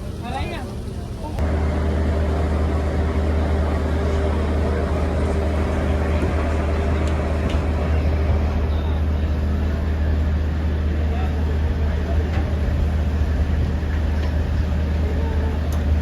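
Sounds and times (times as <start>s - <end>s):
boat diesel engine drone: 0.0s - 16.0s.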